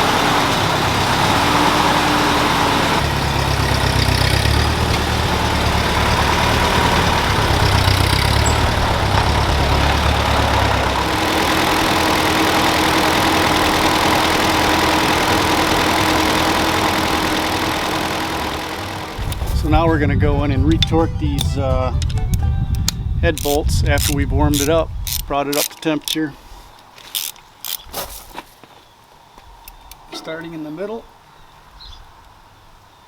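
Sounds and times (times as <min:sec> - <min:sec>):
tractor engine idling: 0:00.0 - 0:28.3.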